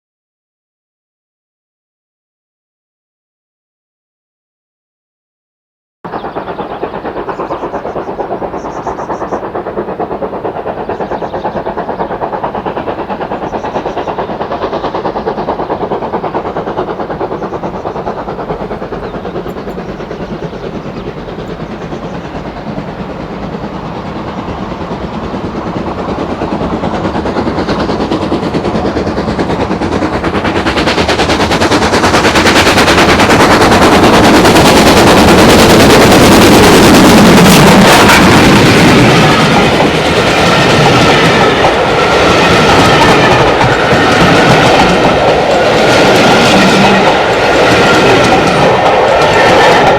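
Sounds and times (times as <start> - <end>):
steam locomotive chuffing: 6.1 - 49.9.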